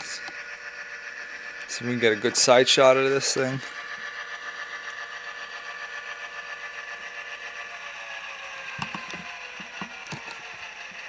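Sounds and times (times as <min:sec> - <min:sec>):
model diesel engine idle from speaker: 0:00.0 - 0:11.0.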